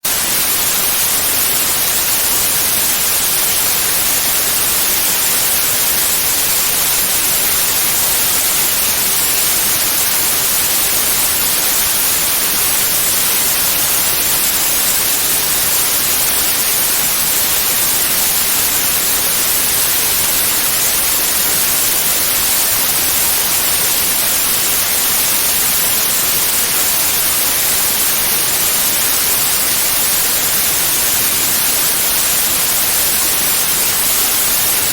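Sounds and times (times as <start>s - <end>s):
steady white noise hiss: 0.0s - 34.9s.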